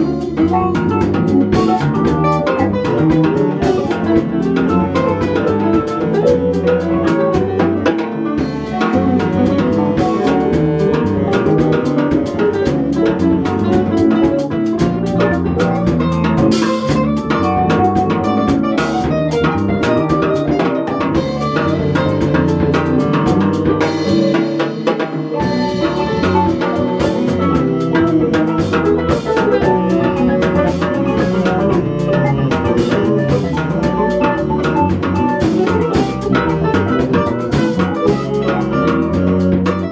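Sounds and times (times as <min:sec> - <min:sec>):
drum kit with busy cymbals: 0:00.0 - 0:39.9
electric bass: 0:00.0 - 0:39.9
electric guitars: 0:00.0 - 0:39.9.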